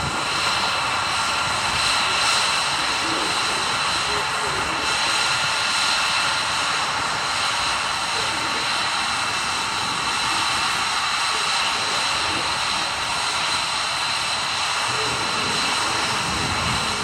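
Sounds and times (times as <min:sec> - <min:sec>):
aircraft engine hiss and whine: 0:00.0 - 0:17.0.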